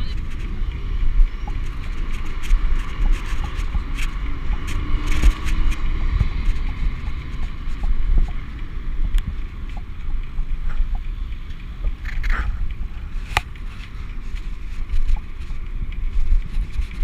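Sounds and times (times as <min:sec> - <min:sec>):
bicycle rolling on pavement: 0:00.0 - 0:17.0
bike clicks and rattles: 0:00.0 - 0:17.0
wind buffeting the microphone: 0:00.0 - 0:17.0.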